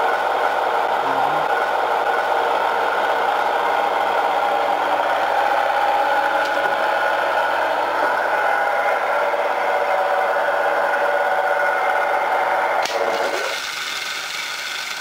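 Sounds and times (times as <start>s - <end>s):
electric motor hum: 0.0s - 15.0s.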